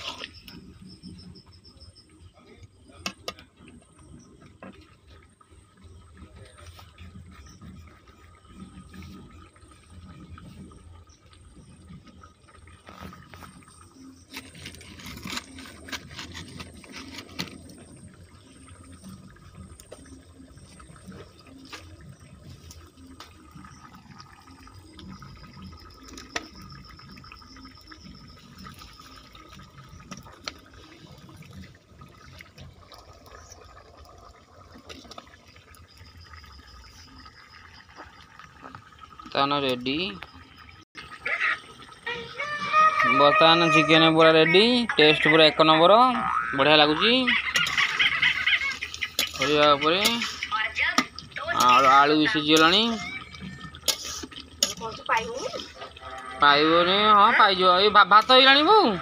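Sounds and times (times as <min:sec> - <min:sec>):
burning wood crackling: 0:00.0 - 0:42.1, 0:46.2 - 0:56.0
curry bubbling at a simmer: 0:00.0 - 0:59.0.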